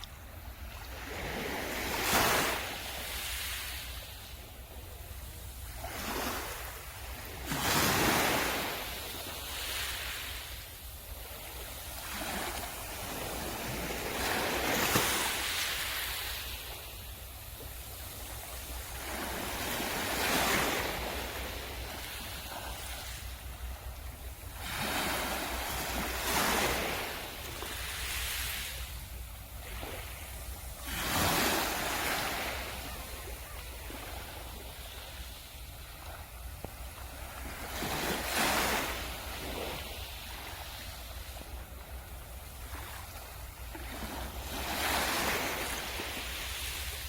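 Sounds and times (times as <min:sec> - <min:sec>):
sea waves breaking on beach: 0:00.6 - 0:23.5, 0:24.2 - 0:47.0.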